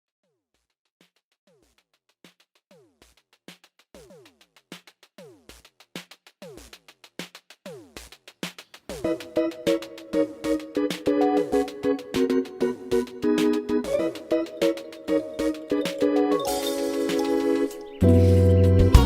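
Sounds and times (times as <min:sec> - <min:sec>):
drum machine kicks: 0:01.1 - 0:17.4.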